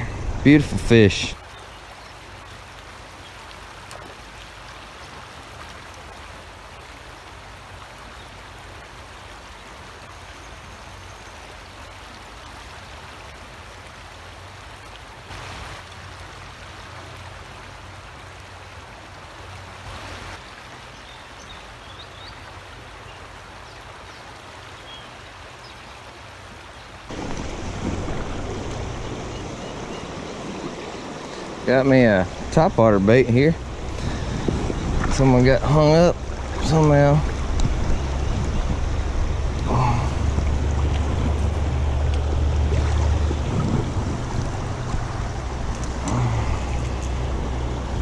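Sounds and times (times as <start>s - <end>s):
creek water rushing over riffles: 0.0s - 48.0s.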